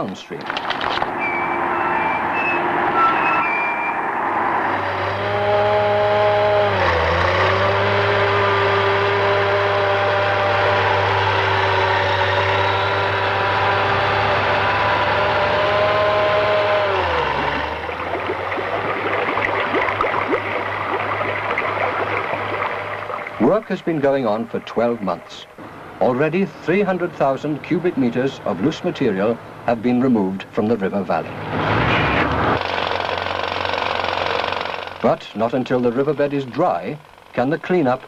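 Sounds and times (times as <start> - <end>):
diesel machinery engine running: 0.6 - 38.0.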